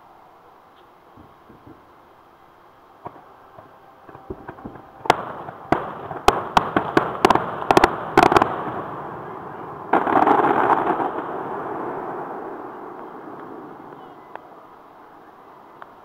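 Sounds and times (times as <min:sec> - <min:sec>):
distant fireworks bursts: 0:00.8 - 0:16.0.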